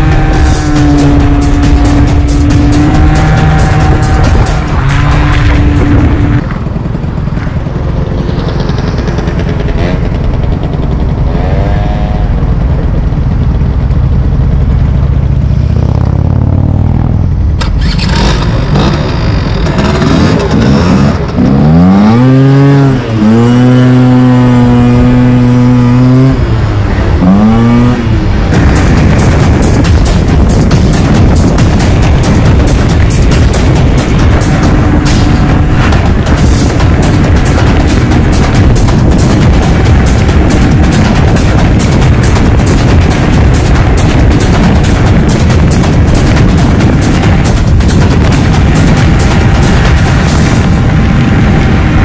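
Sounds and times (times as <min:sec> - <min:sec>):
scooter engine revving: 0:00.0 - 0:51.0.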